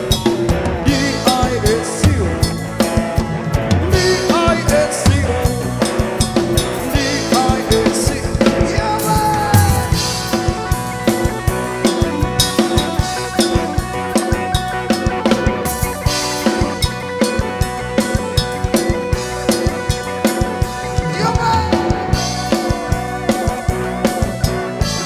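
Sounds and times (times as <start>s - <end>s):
dance band music: 0.0s - 25.0s
drum kit beat: 0.0s - 25.0s.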